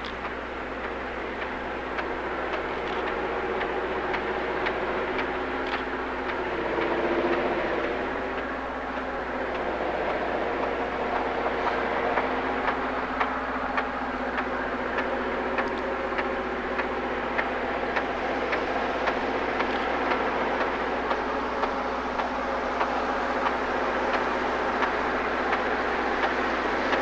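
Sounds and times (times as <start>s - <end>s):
train wheels rumbling on rails: 0.0s - 27.0s
wheels clicking over rail joints: 0.0s - 27.0s.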